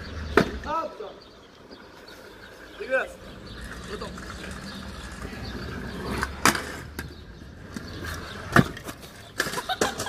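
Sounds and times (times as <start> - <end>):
scooter wheels rolling on pavement: 0.0 - 10.0.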